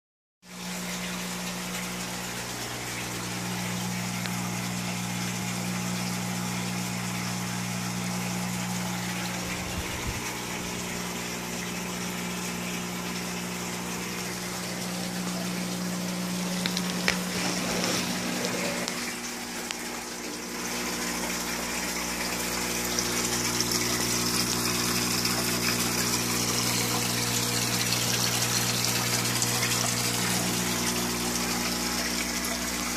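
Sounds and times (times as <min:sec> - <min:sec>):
water pump humming: 0:00.4 - 0:32.9
water splashing and trickling: 0:00.4 - 0:32.9.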